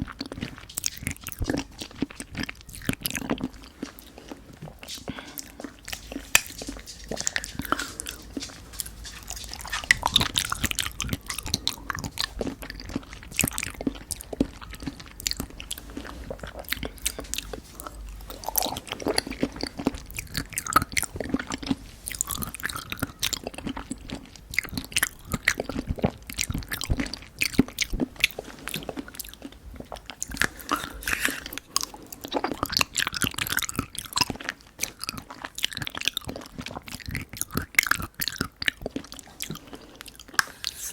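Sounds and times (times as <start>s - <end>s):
wet chewing mouth sounds: 0.0s - 40.9s.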